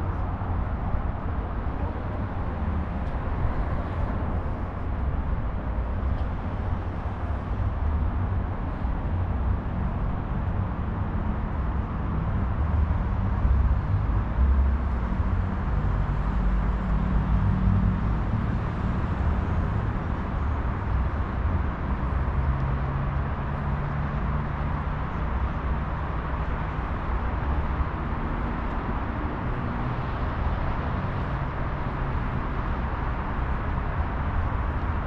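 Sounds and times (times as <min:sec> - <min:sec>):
passing cars traffic noise: 0:00.0 - 0:35.0.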